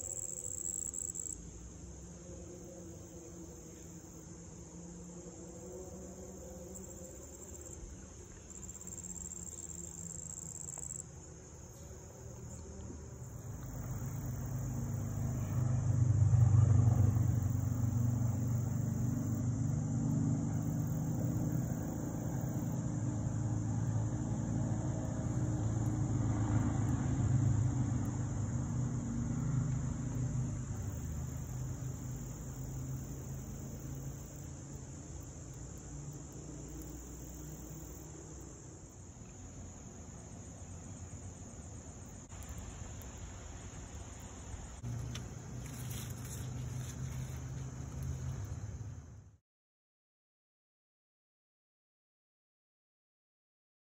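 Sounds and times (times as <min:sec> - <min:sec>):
insects chirring: 0:00.0 - 0:49.2
vehicle engine low hum: 0:00.0 - 0:49.4.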